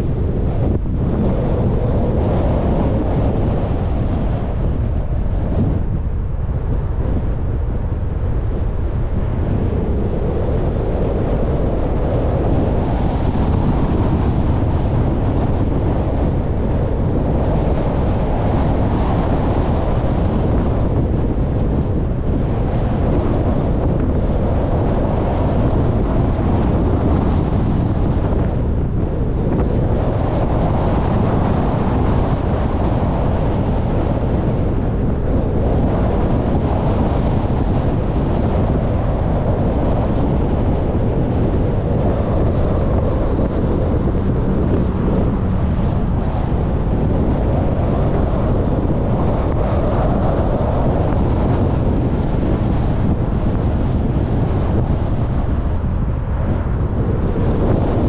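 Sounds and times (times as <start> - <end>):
car road and wind rumble: 0.0 - 58.0.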